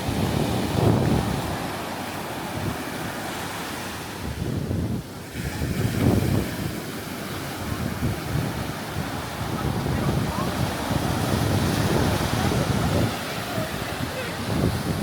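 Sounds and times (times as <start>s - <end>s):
surf washing: 0.0s - 15.0s
wind buffeting microphone: 0.0s - 15.0s.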